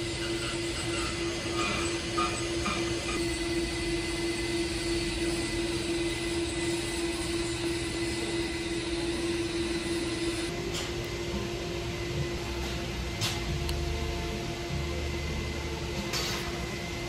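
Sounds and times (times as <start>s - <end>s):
constant humming tone: 0.0s - 17.0s
mechanical drone: 0.0s - 17.0s.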